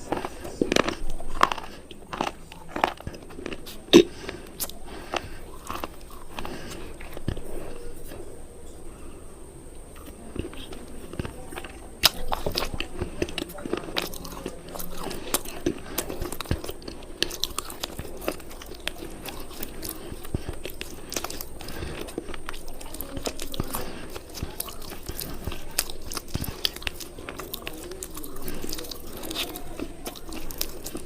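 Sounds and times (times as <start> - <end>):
brittle cubes crunching when chewed: 0.0 - 8.2, 9.9 - 31.0.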